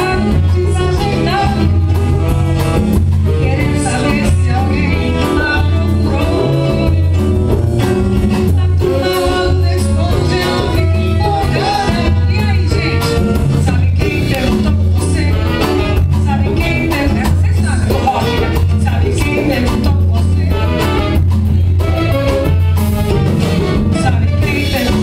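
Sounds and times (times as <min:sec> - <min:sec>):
live band playing: 0:00.0 - 0:25.0
pulsing bass line: 0:00.0 - 0:25.0
steady percussion: 0:00.0 - 0:25.0.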